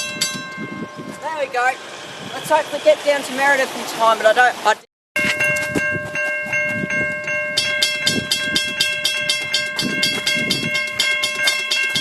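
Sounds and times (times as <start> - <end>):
level crossing bells ringing: 0.0 - 3.7, 5.2 - 12.0.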